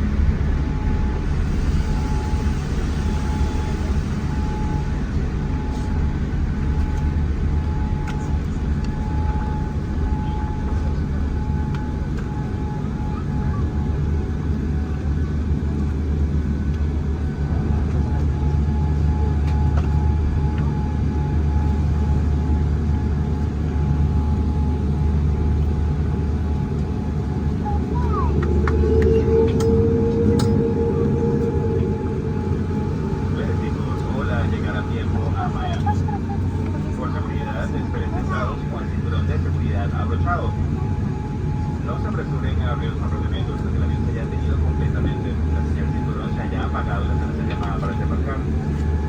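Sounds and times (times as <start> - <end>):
airliner cabin engine rumble: 0.0 - 49.0
thin steady whine: 0.0 - 49.0.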